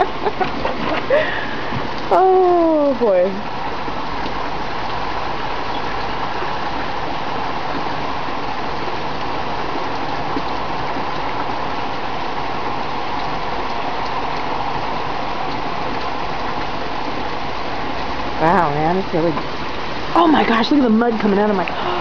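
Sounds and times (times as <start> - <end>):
torrential rain pouring: 0.0 - 22.0.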